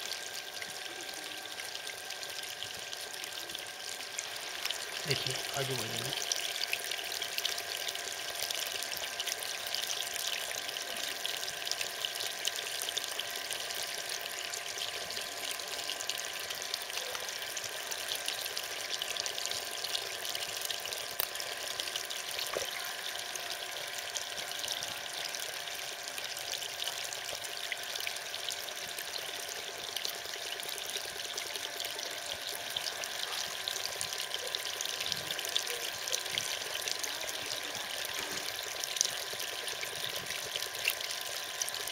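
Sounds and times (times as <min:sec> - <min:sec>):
water pouring into pond: 0:00.0 - 0:41.9.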